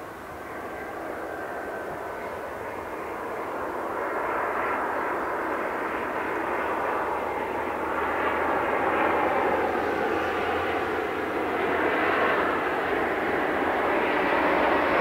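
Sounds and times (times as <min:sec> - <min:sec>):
airliner jet engines drone: 0:00.0 - 0:15.0.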